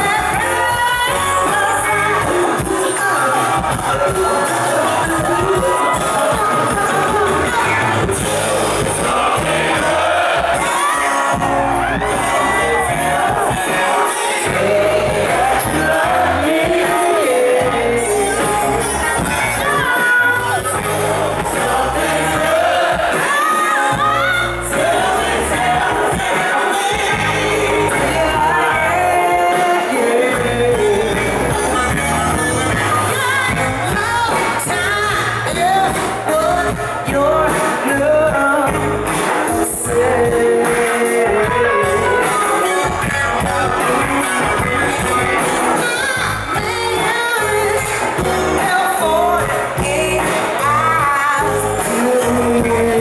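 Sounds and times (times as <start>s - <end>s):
person singing: 0.0s - 44.4s, 45.4s - 53.0s
live rock band playing: 0.0s - 53.0s.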